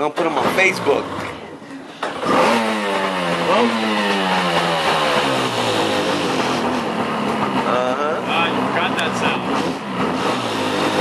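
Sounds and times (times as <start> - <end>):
car engine revving: 0.2 - 1.4, 2.0 - 11.0.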